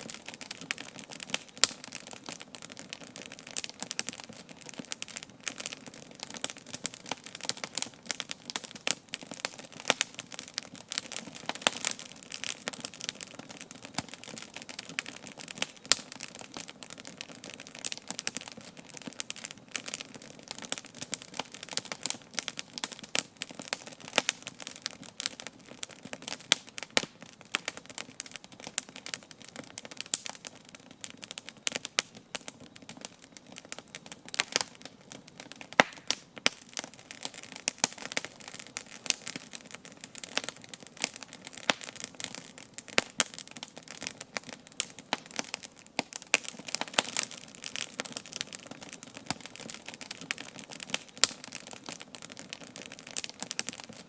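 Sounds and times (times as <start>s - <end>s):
campfire crackling and popping: 0.0s - 54.0s
faint hiss of flames: 0.0s - 54.0s.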